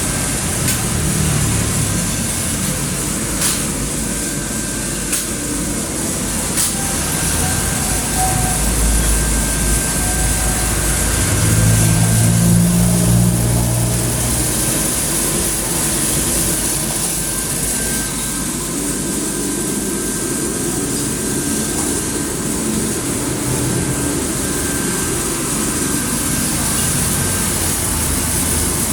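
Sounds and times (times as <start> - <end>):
coffee roaster hissing: 0.0 - 28.9.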